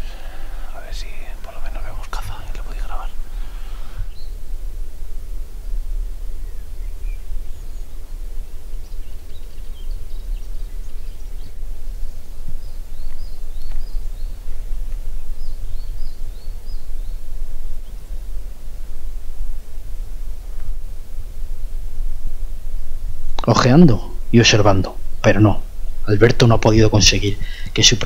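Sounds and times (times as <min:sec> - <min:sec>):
songbird chirping: 0:00.0 - 0:22.6, 0:23.2 - 0:28.0
wind rumbling on microphone: 0:00.0 - 0:28.0.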